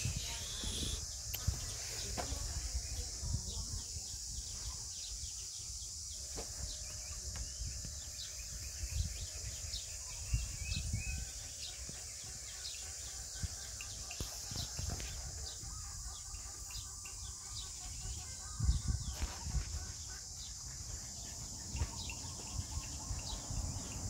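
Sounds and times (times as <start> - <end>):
steady high hiss: 0.0 - 22.8
small birds chirping: 0.0 - 24.0.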